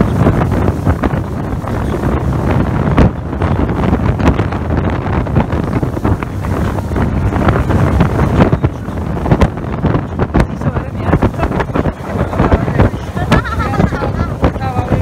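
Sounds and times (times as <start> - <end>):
boat motor droning: 0.0 - 15.0
water rushing past hull: 0.0 - 15.0
wind buffeting microphone: 0.0 - 15.0.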